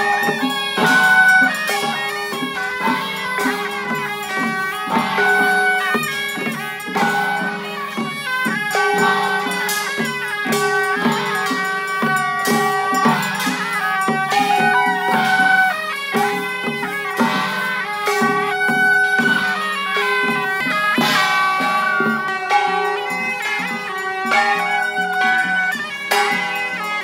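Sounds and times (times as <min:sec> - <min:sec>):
drum and percussion strikes: 0:00.0 - 0:27.0
reed wind melody: 0:00.0 - 0:27.0.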